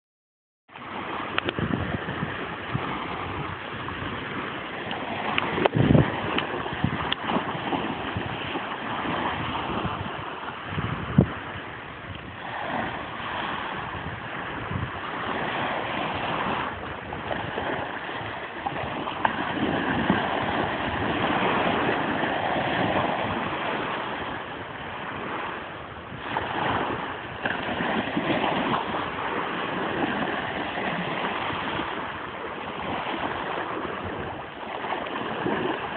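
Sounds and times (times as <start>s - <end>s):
small waves washing onto beach: 0.7s - 35.9s
wind on microphone: 0.7s - 35.9s.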